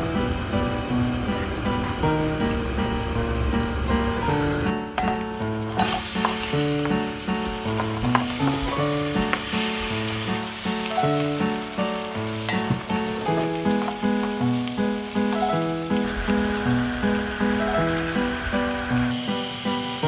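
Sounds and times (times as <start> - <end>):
food sizzling in a pan: 0.0 - 20.0
light background music: 0.0 - 20.0.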